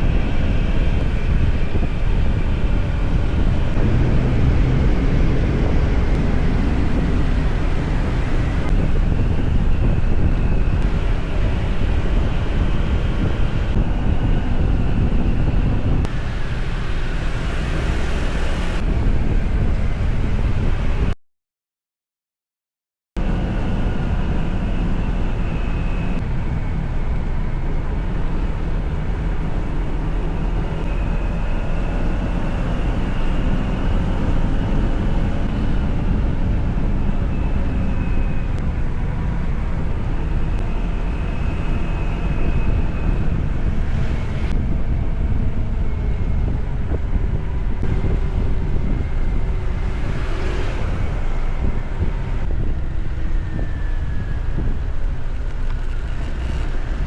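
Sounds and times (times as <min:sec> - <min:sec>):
motorcycle engine rumble: 0:00.0 - 0:21.1, 0:23.2 - 0:57.0
wind noise on microphone: 0:00.0 - 0:21.2, 0:23.2 - 0:57.0.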